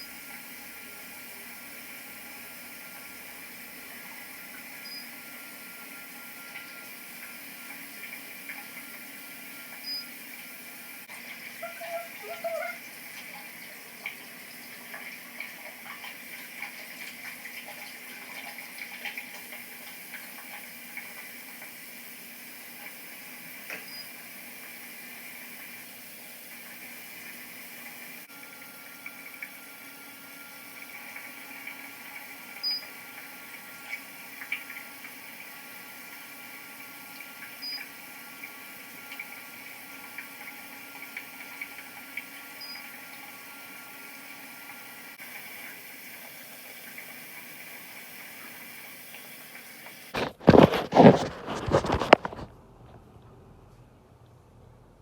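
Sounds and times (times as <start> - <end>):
water running from sink tap: 0.0 - 50.1.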